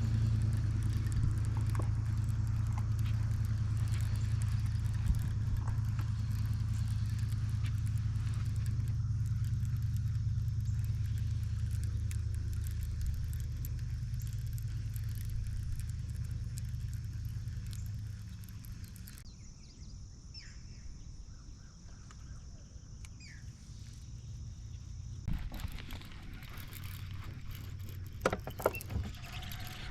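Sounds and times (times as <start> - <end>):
boat motor humming: 0.0 - 19.2, 25.1 - 29.9
insects droning: 0.0 - 29.9
faint insect chirps: 0.1 - 29.9.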